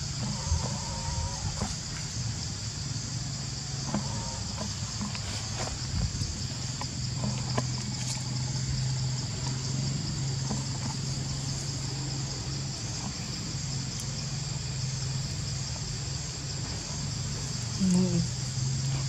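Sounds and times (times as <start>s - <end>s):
high-pitched insect chorus: 0.0s - 19.0s
steady low hum: 0.0s - 19.0s.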